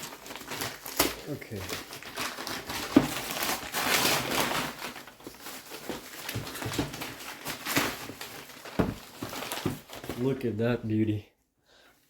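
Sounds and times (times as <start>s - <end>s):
packaging rustling: 0.0s - 10.8s.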